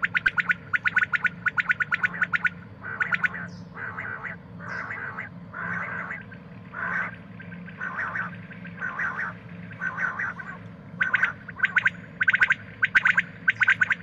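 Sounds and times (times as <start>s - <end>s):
quail rasping calls: 0.0s - 14.0s.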